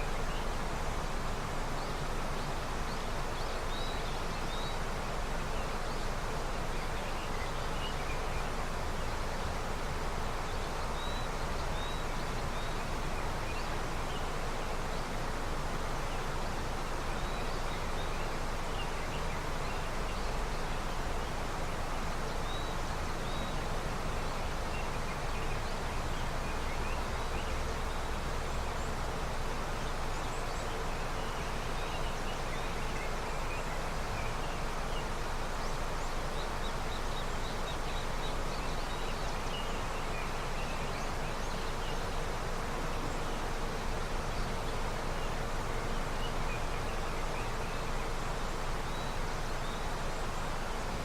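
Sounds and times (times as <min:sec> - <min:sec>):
river water rushing: 0:00.0 - 0:51.0
small birds chirping: 0:00.0 - 0:51.0.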